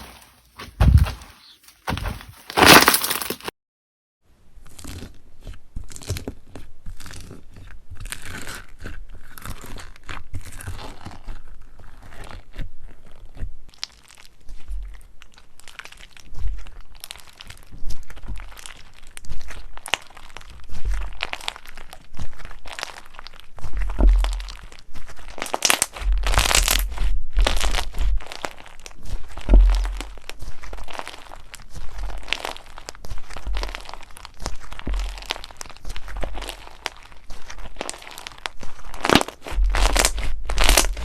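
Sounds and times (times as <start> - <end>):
crunchy slime crackling: 4.6 - 41.0.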